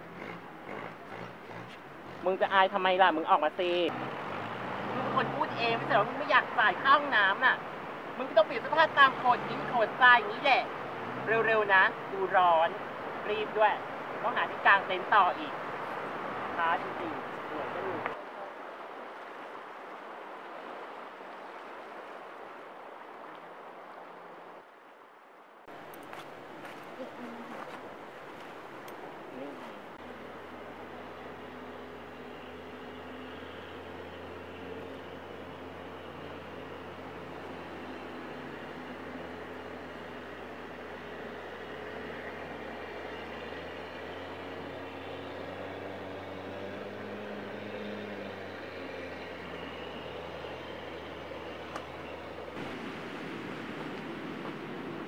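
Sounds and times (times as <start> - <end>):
surf washing: 1.8 - 55.0.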